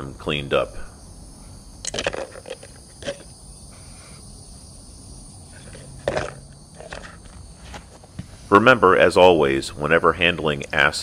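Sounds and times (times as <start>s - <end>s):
insect drone: 0.0s - 11.0s.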